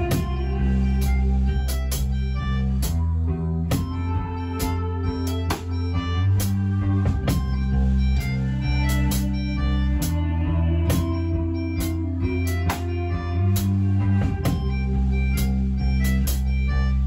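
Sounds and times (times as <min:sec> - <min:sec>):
rock band playing instrumental: 0:00.0 - 0:03.0, 0:03.7 - 0:17.0.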